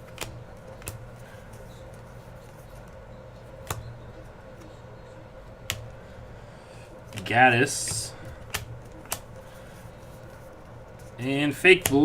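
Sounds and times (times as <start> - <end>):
trading cards clicking: 0.0 - 4.8, 5.5 - 6.0, 7.0 - 12.0
steady low hum: 0.0 - 12.0.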